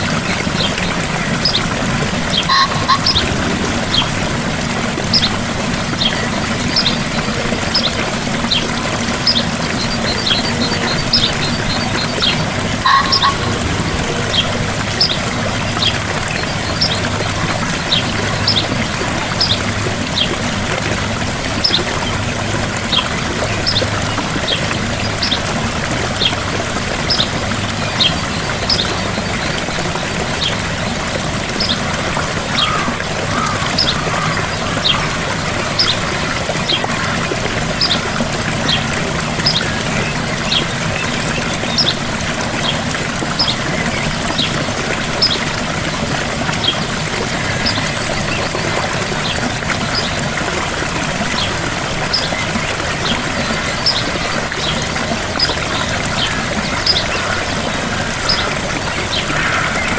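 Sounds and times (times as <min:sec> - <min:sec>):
waterfall splashing: 0:00.0 - 0:59.9.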